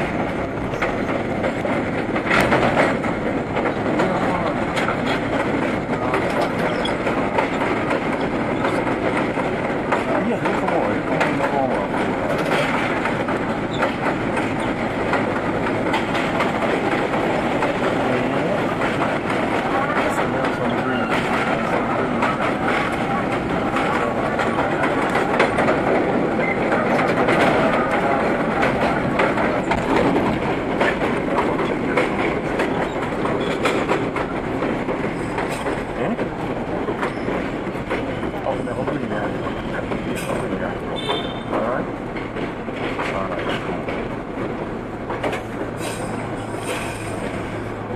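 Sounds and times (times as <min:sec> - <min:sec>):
subway train rumble and rattle: 0:00.0 - 0:47.9
wheels clicking over rail joints: 0:00.0 - 0:47.9.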